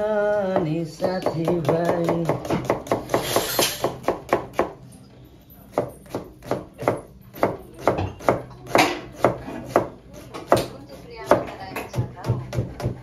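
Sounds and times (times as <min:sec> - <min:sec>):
knife chopping on cutting board: 0:00.5 - 0:04.8, 0:05.7 - 0:13.0.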